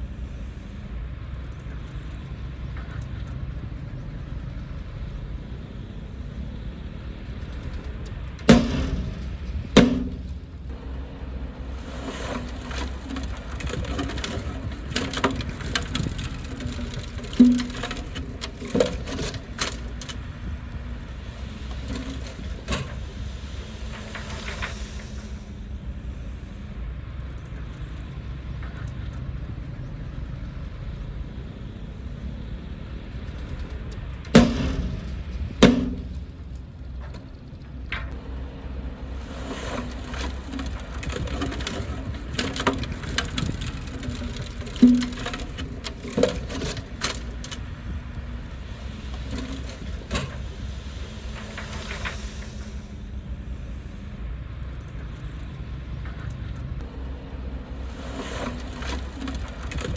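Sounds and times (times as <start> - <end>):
diesel machine rumbling: 0.0 - 59.9.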